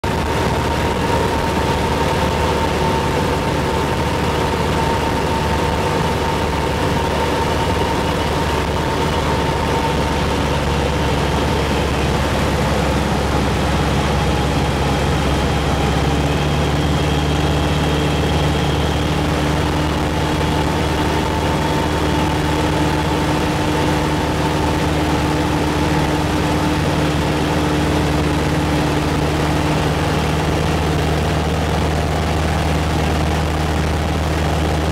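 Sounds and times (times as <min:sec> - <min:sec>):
propeller aircraft engine drone: 0:00.0 - 0:34.9
wind noise on microphone: 0:00.0 - 0:34.9.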